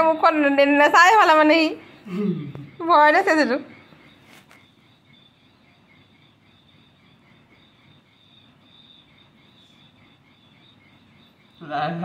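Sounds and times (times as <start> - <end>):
high pulsing insect chirping: 0.0 - 12.0
room hiss: 0.0 - 12.0.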